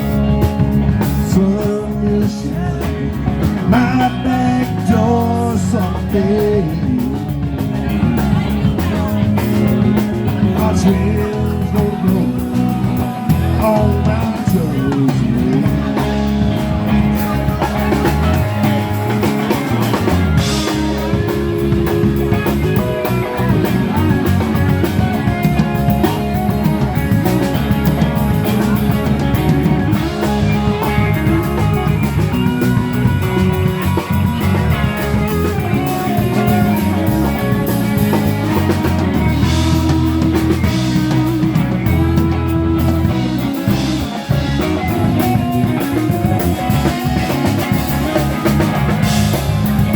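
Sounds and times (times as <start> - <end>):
bass guitar: 0.0 - 49.9
drum kit steady beat: 0.0 - 49.9
electric guitar: 0.0 - 49.9.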